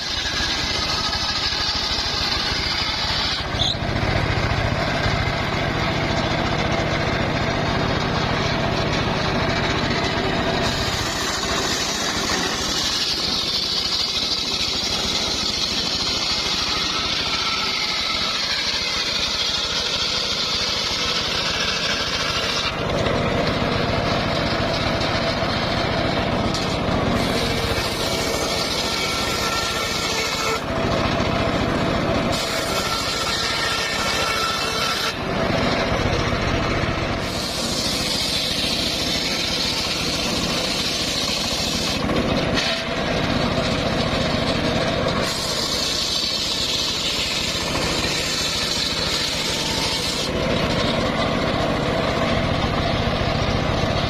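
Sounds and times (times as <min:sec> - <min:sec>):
circular saw cutting wood: 0:00.0 - 0:54.0.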